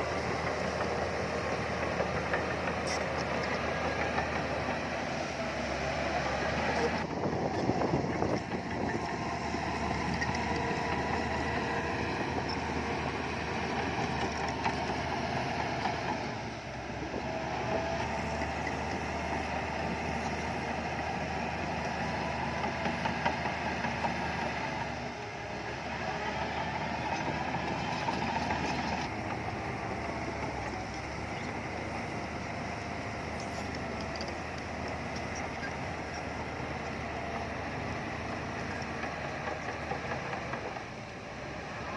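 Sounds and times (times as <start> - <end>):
heavy diesel machinery under load: 0.0 - 41.9.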